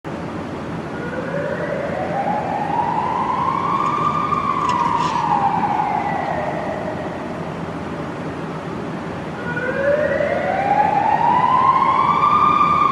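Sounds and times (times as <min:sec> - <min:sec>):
police siren wailing: 0:00.8 - 0:07.8, 0:09.3 - 0:12.9.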